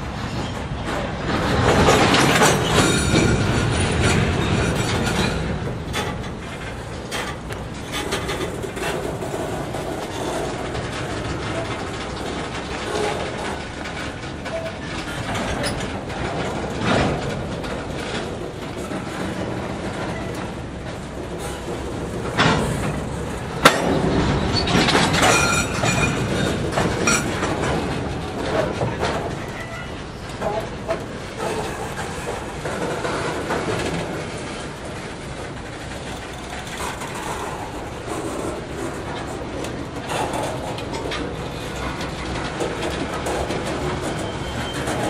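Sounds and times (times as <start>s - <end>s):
train clank: 0.0s - 45.0s
train wheels rumbling: 0.0s - 45.0s.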